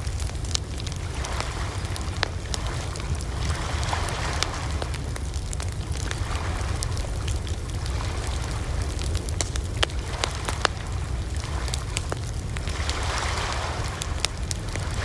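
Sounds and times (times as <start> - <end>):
campfire crackling and popping: 0.0 - 15.0
steady low rumble: 0.0 - 15.0.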